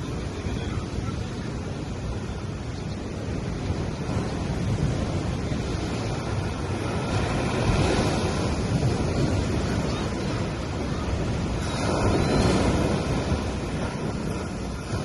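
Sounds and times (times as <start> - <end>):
sea waves on beach: 0.0 - 15.0
wind on microphone: 0.0 - 15.0.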